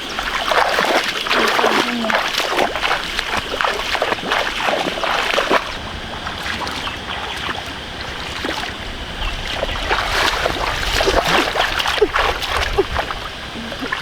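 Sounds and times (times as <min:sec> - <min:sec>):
muddy water splashing: 0:00.0 - 0:14.0.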